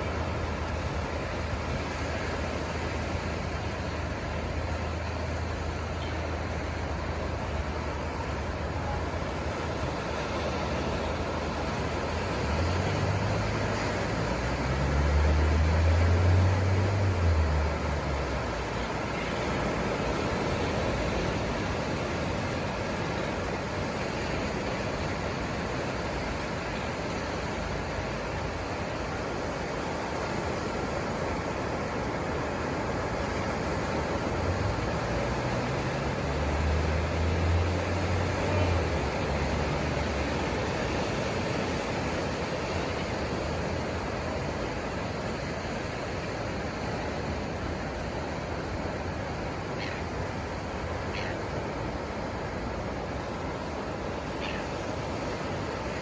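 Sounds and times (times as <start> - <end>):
low engine rumble: 0.0 - 56.0
ocean surf on a beach: 0.0 - 56.0.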